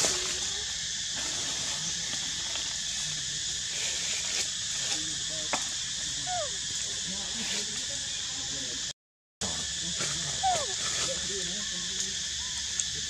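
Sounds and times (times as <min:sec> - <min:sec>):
outdoor ambient hiss: 0:00.0 - 0:13.0.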